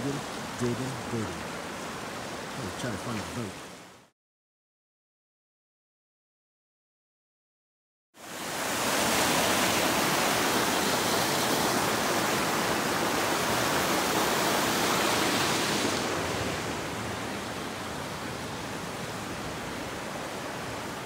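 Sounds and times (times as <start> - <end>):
mountain creek rushing: 0.0 - 4.1, 8.2 - 21.0.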